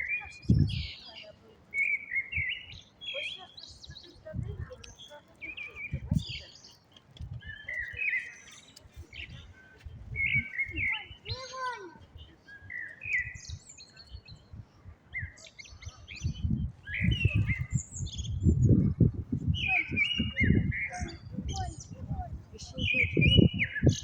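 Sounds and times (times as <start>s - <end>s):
blackbird singing: 0.0s - 24.0s.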